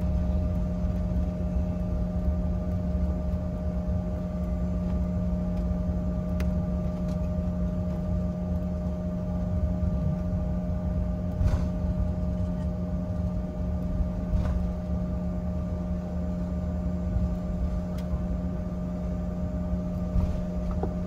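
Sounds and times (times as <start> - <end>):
aircraft cabin rumble: 0.0 - 21.0
jet engine hum: 0.0 - 21.0.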